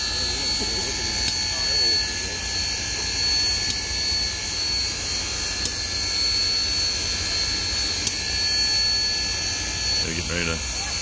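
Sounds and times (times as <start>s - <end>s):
steam hiss with high whine: 0.0s - 11.0s.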